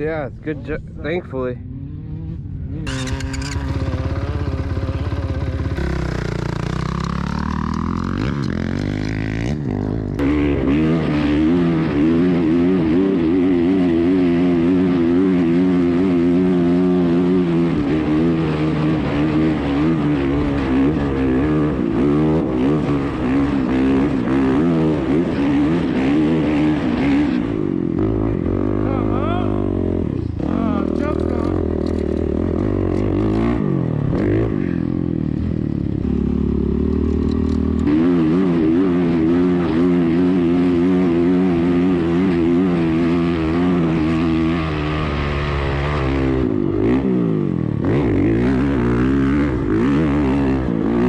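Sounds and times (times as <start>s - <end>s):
dirt bike engine revving: 1.4s - 51.0s.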